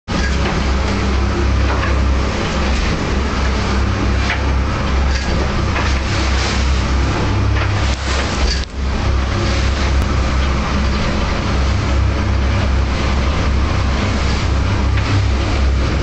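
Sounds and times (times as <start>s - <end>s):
boat engine droning: 0.0s - 16.0s
rushing water and wind: 0.1s - 16.0s.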